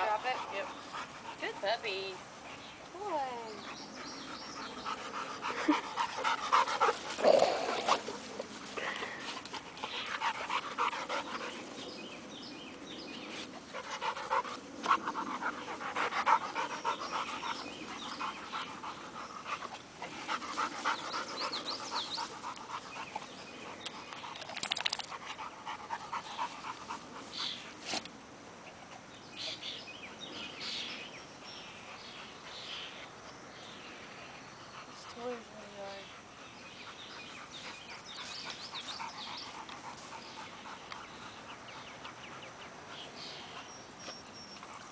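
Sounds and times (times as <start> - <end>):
dogs panting: 0.0 - 44.9.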